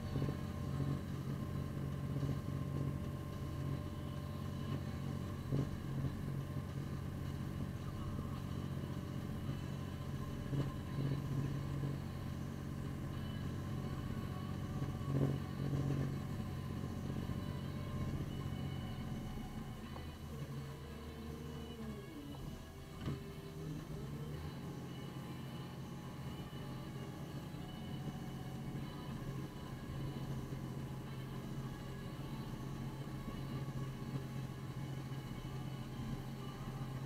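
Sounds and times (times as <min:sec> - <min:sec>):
engine running from inside cab: 0:00.0 - 0:37.0.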